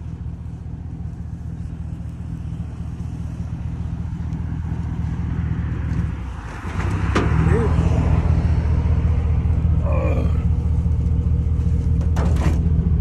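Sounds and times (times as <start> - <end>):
pickup truck engine idling: 0.0 - 13.0.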